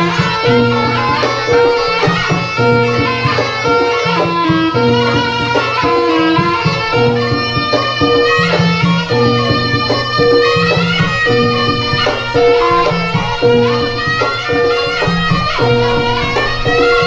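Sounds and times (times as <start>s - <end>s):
drum strokes: 0.0s - 17.0s
gamelan music: 0.0s - 17.0s.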